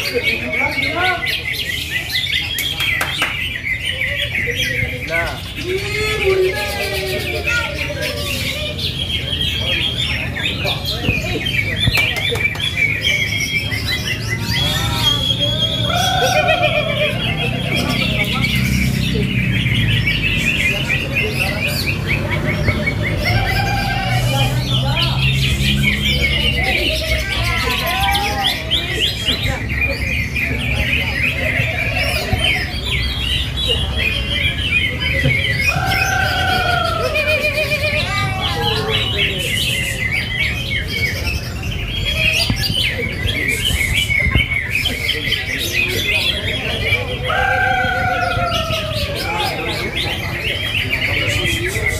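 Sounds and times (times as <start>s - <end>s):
caged birds singing: 0.0s - 51.9s.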